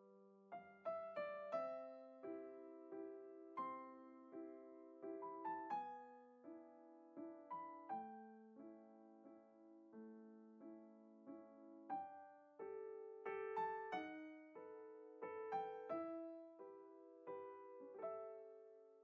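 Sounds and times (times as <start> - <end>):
slow piano notes: 0.0 - 19.0.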